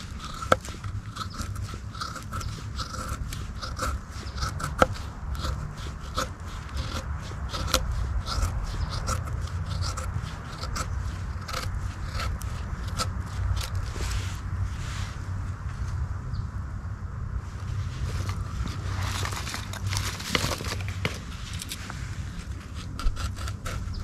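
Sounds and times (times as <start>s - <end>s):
knife scraping wood: 0.0s - 15.3s, 17.5s - 24.0s.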